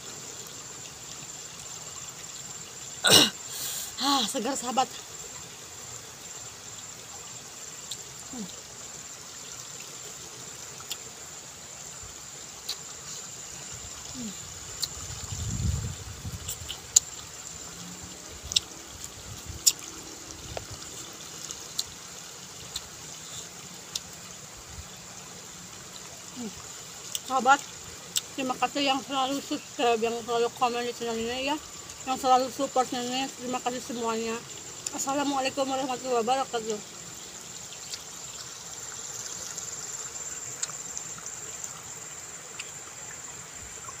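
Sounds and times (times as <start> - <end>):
insects droning: 0.0 - 44.0
steady high hiss: 0.0 - 44.0.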